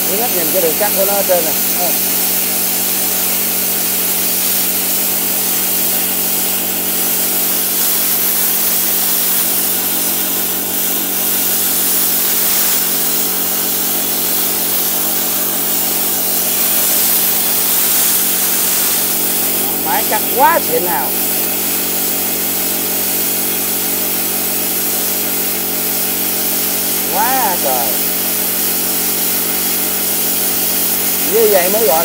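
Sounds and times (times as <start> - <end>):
plasma cutter arc hissing: 0.0 - 32.0.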